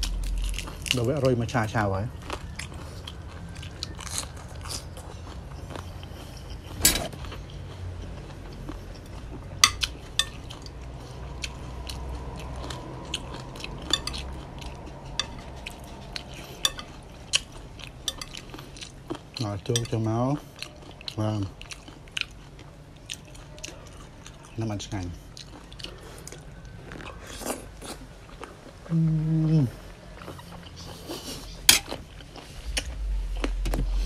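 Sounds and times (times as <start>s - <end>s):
chewing and crunching: 0.0s - 34.0s.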